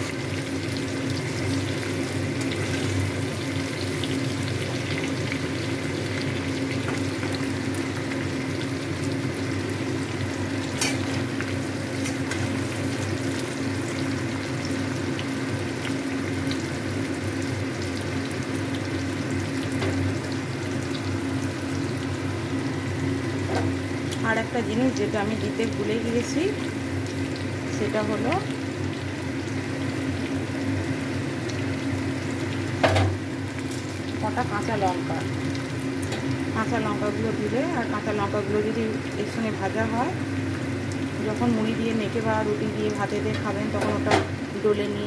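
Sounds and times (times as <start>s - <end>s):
mango sizzling in hot oil: 0.0s - 45.0s.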